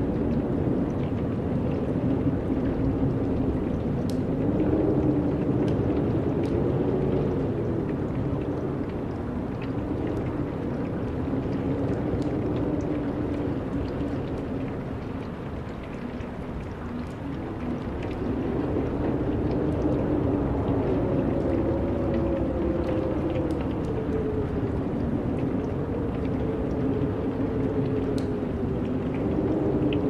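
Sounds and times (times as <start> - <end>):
wind blowing in gusts: 0.0 - 30.0.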